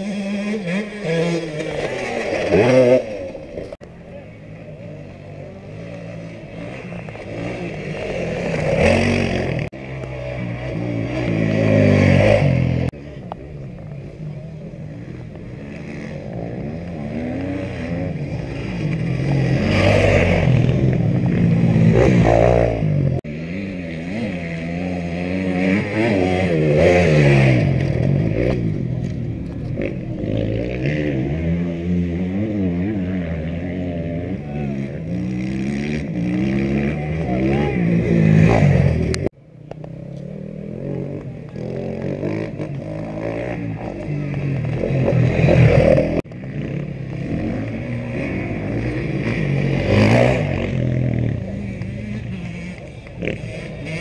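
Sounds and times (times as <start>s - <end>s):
motorcycles revving past: 0.0s - 54.0s.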